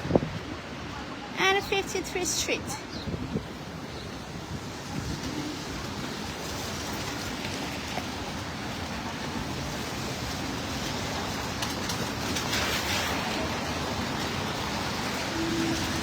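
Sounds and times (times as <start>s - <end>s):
rain hiss: 0.0s - 16.0s
traffic on wet streets: 0.0s - 16.0s.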